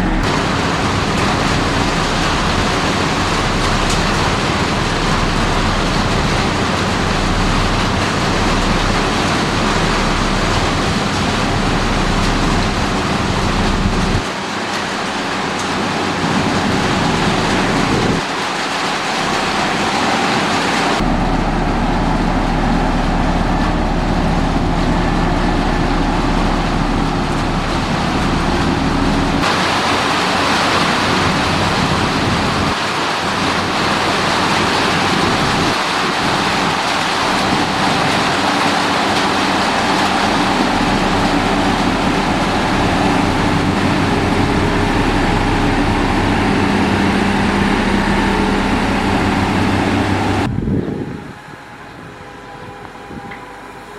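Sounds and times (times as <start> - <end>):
heavy machinery diesel engines: 0.0 - 53.9.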